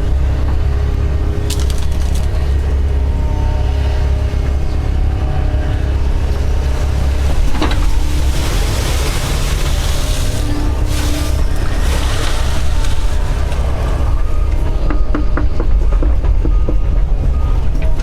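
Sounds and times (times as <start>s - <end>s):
excavator diesel engine droning: 0.0s - 18.0s.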